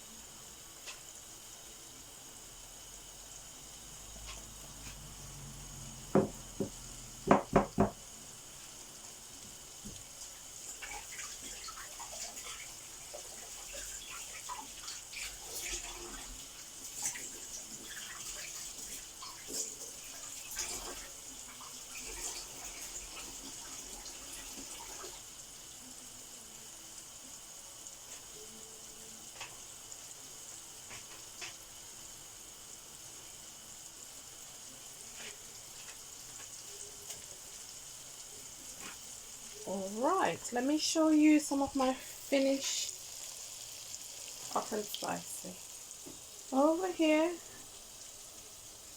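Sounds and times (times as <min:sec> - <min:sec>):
chicken frying in oil: 0:00.0 - 0:48.9.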